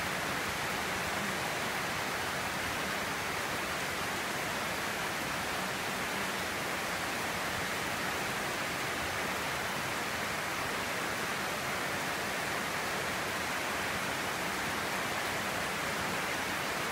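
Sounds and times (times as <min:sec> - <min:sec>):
steady rain hiss: 0:00.0 - 0:16.9.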